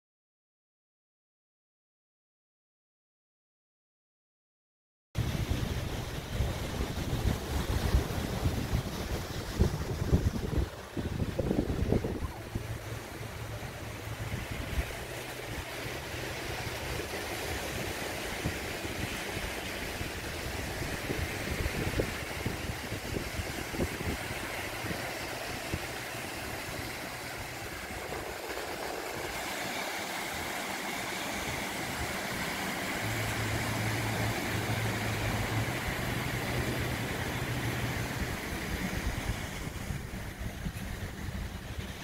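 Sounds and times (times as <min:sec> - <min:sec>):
low engine hum: 0:05.2 - 0:42.0
small waves washing on shore: 0:05.2 - 0:42.0
wind rumbling on microphone: 0:05.2 - 0:42.0.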